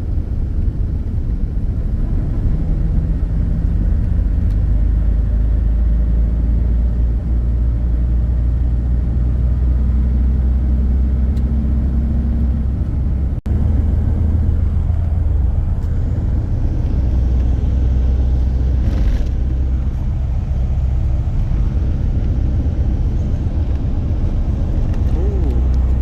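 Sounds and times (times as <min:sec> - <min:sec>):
vehicle engine low rumble: 0:00.0 - 0:26.0.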